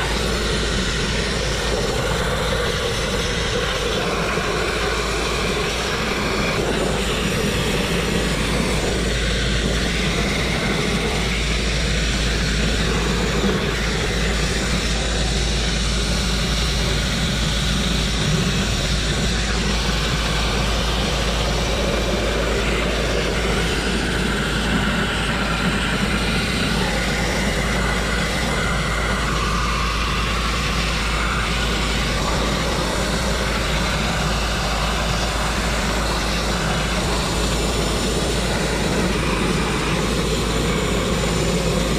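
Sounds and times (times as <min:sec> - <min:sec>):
grit-blasting nozzle hissing: 0:00.0 - 0:41.9.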